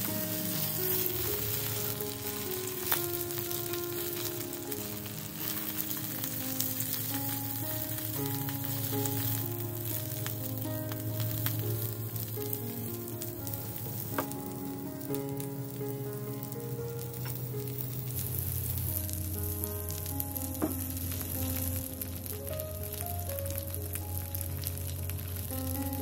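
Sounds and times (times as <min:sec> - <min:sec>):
cabbage sizzling in oil: 0:00.0 - 0:26.0
soft melodic background music: 0:00.0 - 0:26.0.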